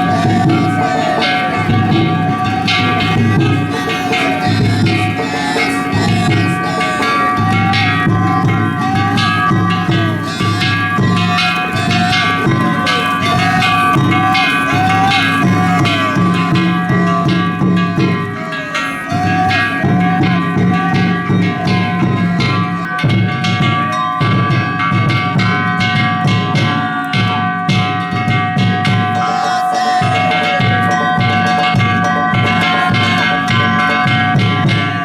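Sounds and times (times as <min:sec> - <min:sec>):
sustained ringing metallic tones: 0:00.0 - 0:35.0
taiko drum: 0:00.0 - 0:35.0.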